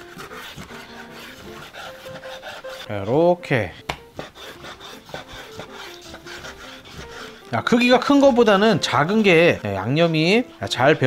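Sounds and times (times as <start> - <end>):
knife slicing meat on wood: 0.0 - 2.9, 3.8 - 11.0.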